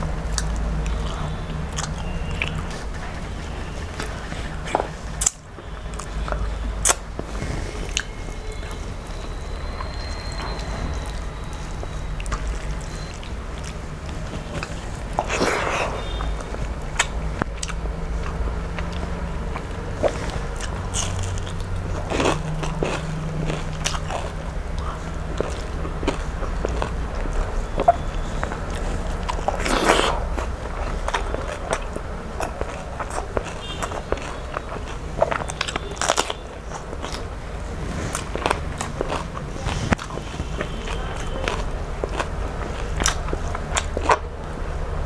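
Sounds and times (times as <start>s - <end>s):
chewing and mouth clicks: 0.0s - 45.0s
steady low hum: 0.0s - 45.0s.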